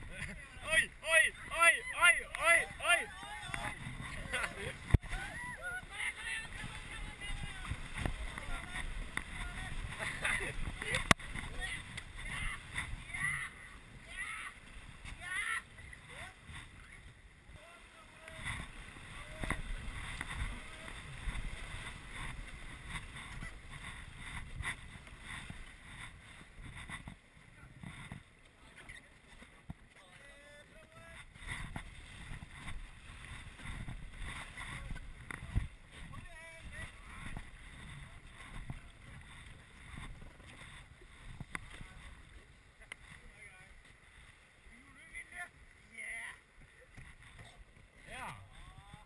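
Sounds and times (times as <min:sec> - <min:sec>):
wind on microphone: 0:00.0 - 0:29.0, 0:30.9 - 0:43.2
paddles splashing water: 0:00.0 - 0:49.0
rushing river water: 0:00.0 - 0:49.0.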